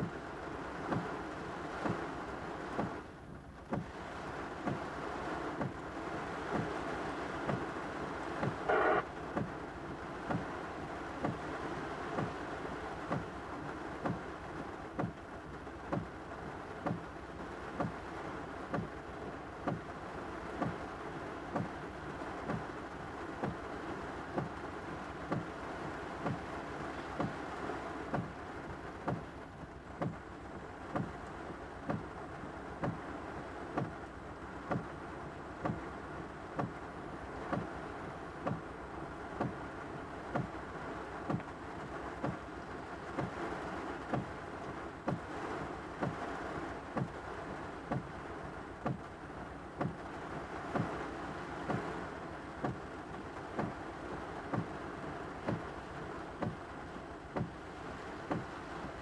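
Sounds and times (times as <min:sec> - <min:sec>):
rain falling on a car: 0:00.0 - 0:59.0.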